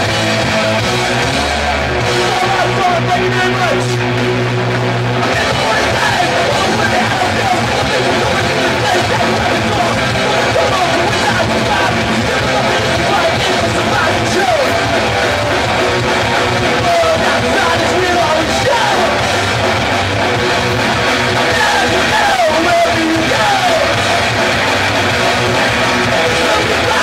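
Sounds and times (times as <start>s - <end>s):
bass and drums: 0.0s - 27.0s
distorted electric guitars: 0.0s - 27.0s
punk rock band playing live: 0.0s - 27.0s.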